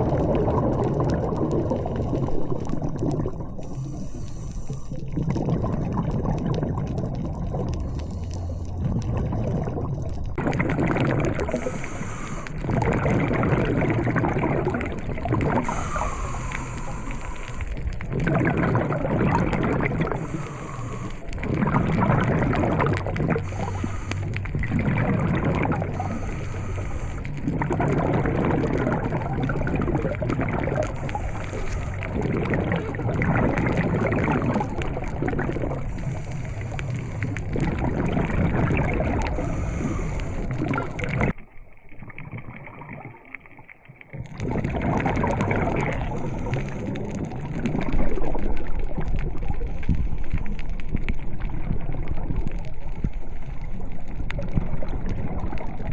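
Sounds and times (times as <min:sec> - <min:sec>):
underwater water bubbling: 0:00.0 - 0:55.9.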